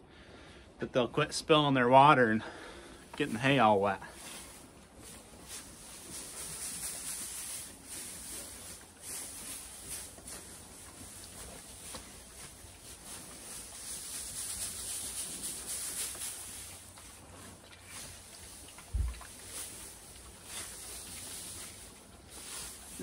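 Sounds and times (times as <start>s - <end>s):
hay rustling with pitchfork: 3.1s - 23.0s.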